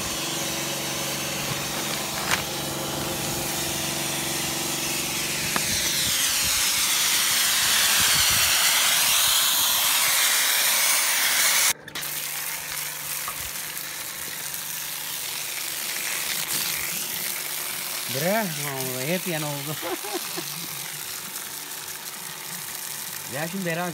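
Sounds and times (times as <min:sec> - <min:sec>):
pressure washer jet hissing: 0:00.0 - 0:23.9.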